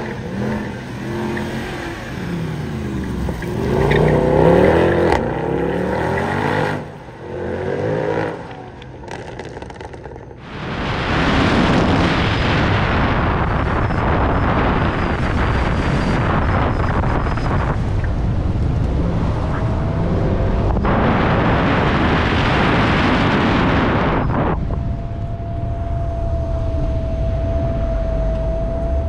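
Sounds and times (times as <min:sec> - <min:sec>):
wind buffeting microphone: 0:00.0 - 0:07.1, 0:09.2 - 0:29.0
car engine rumbling: 0:00.0 - 0:29.0.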